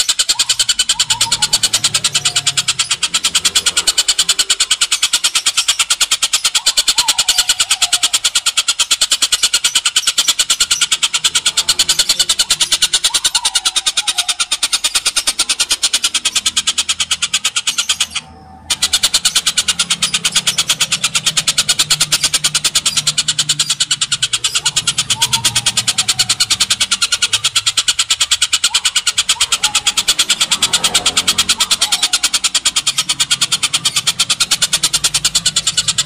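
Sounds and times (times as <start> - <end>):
bird chattering call: 0.0 - 36.0.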